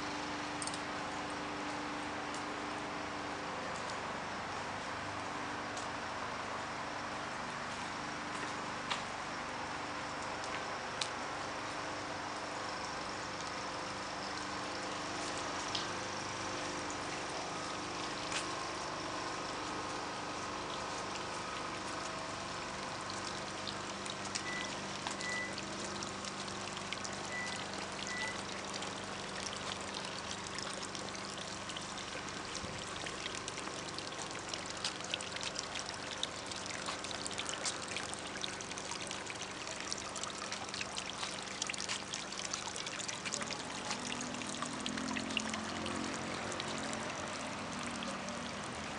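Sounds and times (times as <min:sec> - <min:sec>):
water trickling and pouring: 0:00.0 - 0:05.9, 0:06.5 - 0:48.9
small water drips: 0:00.0 - 0:48.9.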